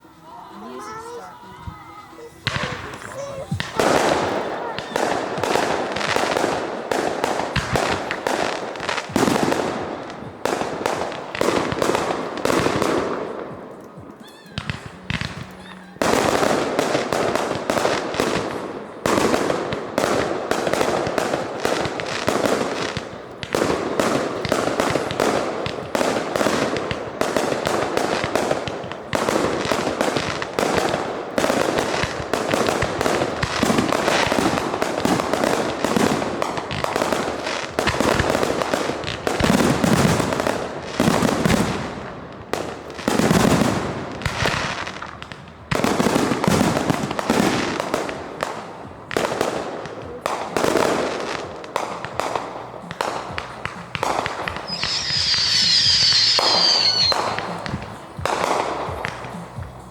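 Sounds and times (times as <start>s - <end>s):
fireworks bangs and crackling: 0.0s - 59.9s
heavy fireworks booms: 0.0s - 59.9s.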